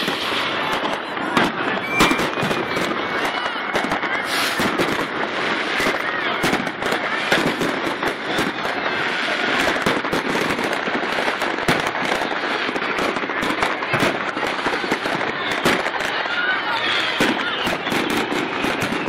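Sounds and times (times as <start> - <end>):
firecrackers crackling: 0.0 - 19.0
fireworks bangs: 0.0 - 19.0.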